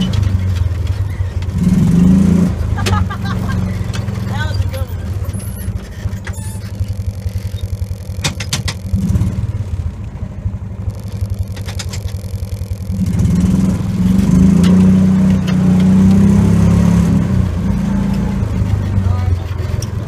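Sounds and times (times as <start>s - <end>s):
rattles: 0.0s - 1.8s, 2.7s - 10.1s, 10.8s - 16.3s, 18.0s - 20.0s
utility vehicle engine rumbling: 0.0s - 20.0s.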